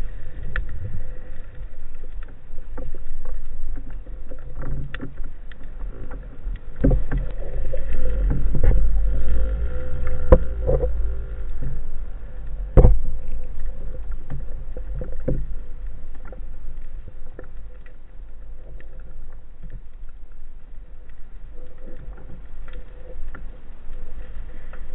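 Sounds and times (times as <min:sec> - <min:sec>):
underwater rumble of moving water: 0:00.0 - 0:24.9.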